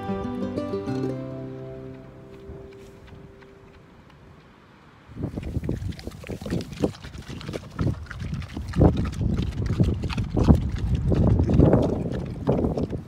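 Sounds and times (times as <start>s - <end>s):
pig chewing and crunching: 0.9s - 4.5s, 5.2s - 13.0s.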